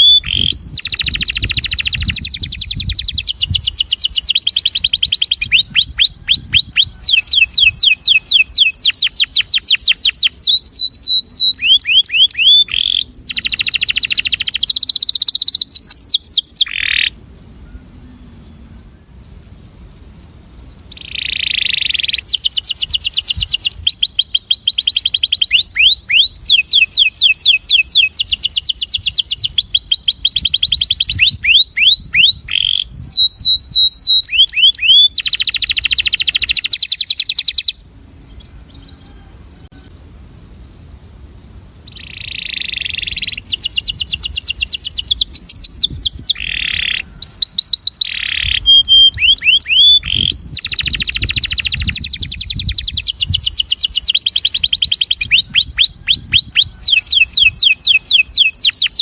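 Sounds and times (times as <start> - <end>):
canary singing trills: 0.0 - 40.3, 41.8 - 59.0.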